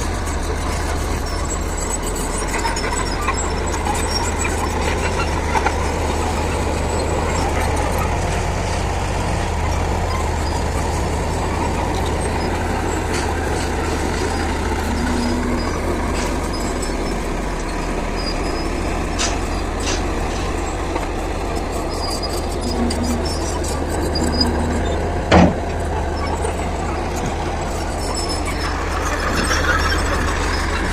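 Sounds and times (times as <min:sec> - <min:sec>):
heavy machine engine droning: 0:00.0 - 0:30.9.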